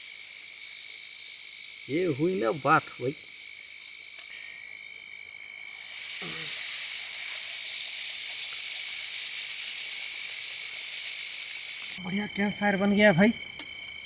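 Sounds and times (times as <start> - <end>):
crickets trilling: 0.0 - 14.0
food deep-frying in oil: 0.0 - 14.0.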